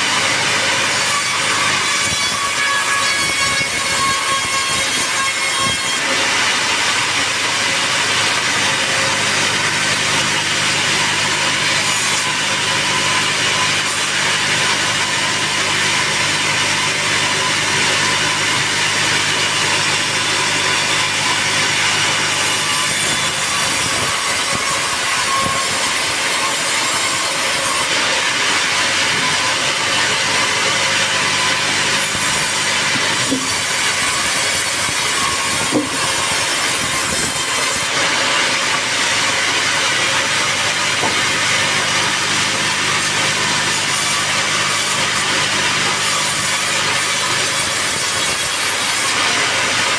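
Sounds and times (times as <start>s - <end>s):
saw cutting through log: 0.0s - 49.9s.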